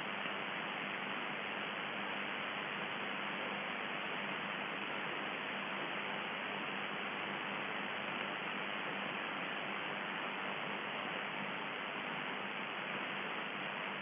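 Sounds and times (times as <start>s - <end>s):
faint low hum: 0.0s - 14.0s
shortwave radio static hiss: 0.0s - 14.0s.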